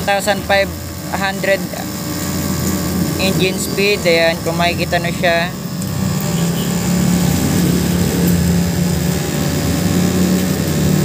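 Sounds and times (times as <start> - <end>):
spark plug buzzing crackle: 0.0 - 11.0.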